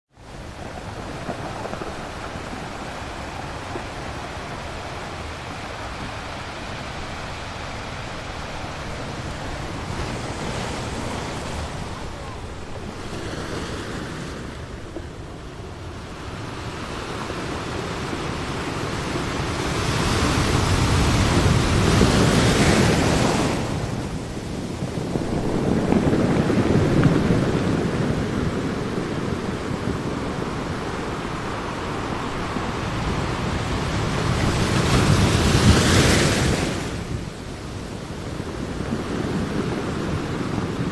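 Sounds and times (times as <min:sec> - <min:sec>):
steady rushing noise: 0:00.1 - 0:40.9.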